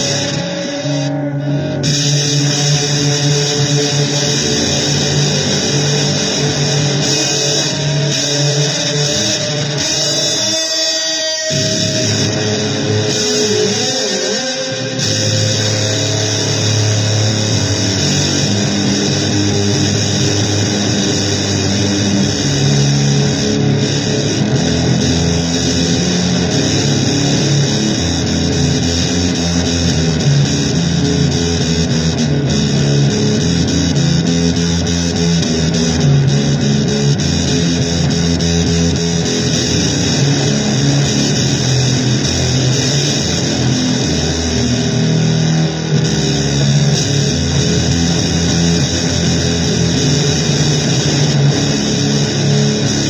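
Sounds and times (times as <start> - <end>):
distorted electric blues guitar: 0.0 - 53.0.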